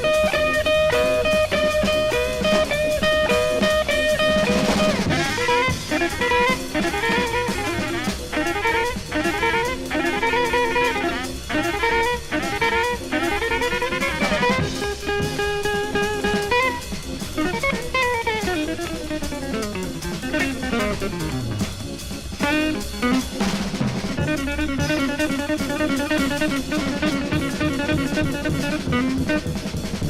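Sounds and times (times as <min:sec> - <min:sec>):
drum kit: 0:00.0 - 0:30.0
electric jazz guitar runs: 0:00.0 - 0:30.0.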